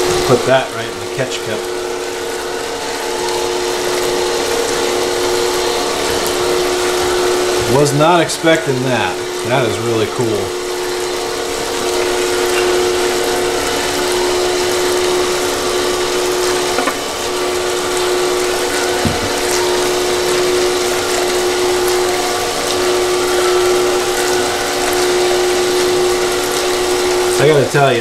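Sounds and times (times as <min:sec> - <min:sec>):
pump humming: 0:00.0 - 0:28.0
water splashing and trickling: 0:00.0 - 0:28.0.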